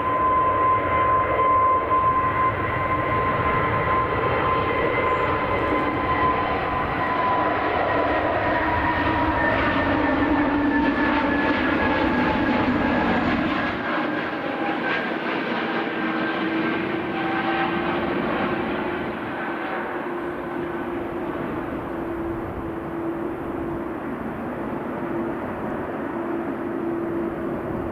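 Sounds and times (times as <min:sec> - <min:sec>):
jet engines whining: 0:00.0 - 0:27.9.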